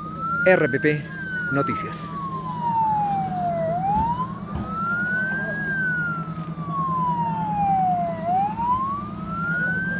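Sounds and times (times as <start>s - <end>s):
ambulance siren wailing: 0.0s - 9.9s.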